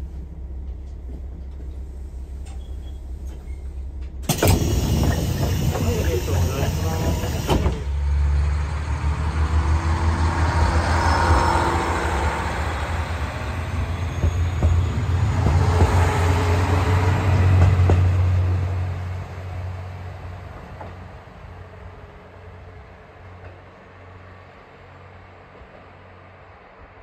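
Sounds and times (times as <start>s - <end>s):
diesel railcar engine droning: 0.0s - 27.0s
wheel and rail noise: 0.0s - 27.0s.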